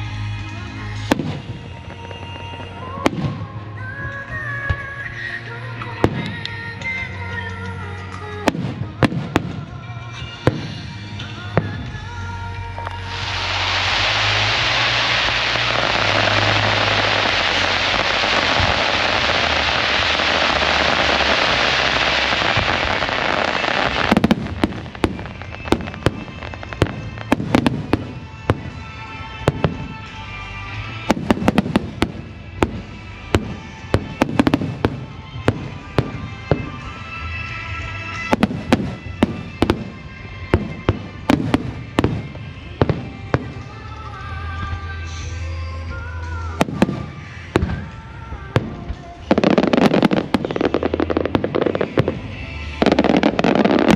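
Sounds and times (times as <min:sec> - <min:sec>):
dense steady hiss: 0:00.0 - 0:53.9
music from loudspeakers: 0:00.0 - 0:53.9
fireworks bangs: 0:00.9 - 0:12.2, 0:12.8 - 0:44.4, 0:46.4 - 0:53.9.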